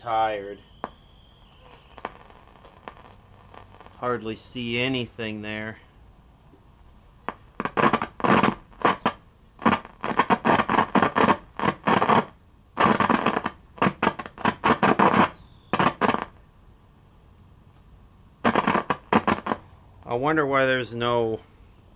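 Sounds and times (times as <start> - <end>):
tv static bursts: 0.0 - 6.5, 7.1 - 17.7, 18.4 - 21.2
faint high-pitched whine: 0.0 - 21.9.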